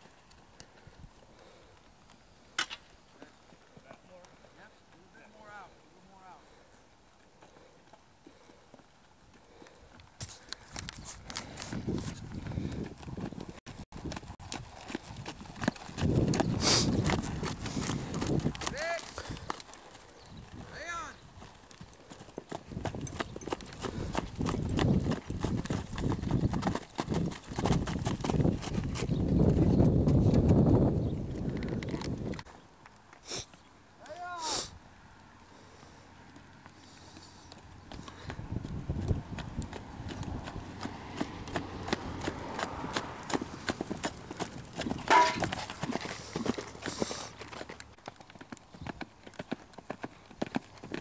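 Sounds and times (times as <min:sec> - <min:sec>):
horse hooves clip-clopping: 0:00.0 - 0:05.4, 0:06.7 - 0:33.8, 0:35.7 - 0:51.0.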